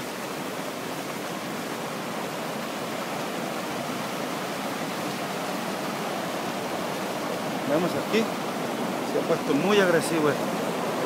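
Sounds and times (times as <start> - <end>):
boiling water churning: 0.0 - 11.0.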